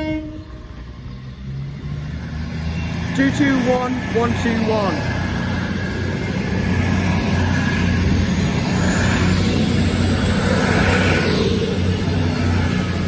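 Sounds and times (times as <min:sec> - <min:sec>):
diesel train engines running: 0:00.0 - 0:13.0
train wheels on rails: 0:00.6 - 0:13.0.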